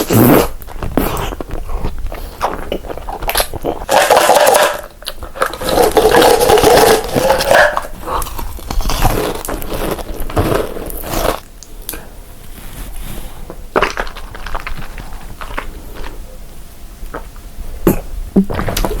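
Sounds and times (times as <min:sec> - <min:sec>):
person chewing crunchy food: 0:00.0 - 0:16.2.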